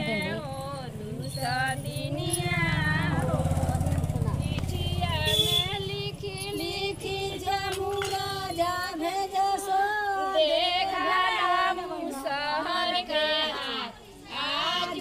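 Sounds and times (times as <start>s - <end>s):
women singing: 0.0s - 15.0s.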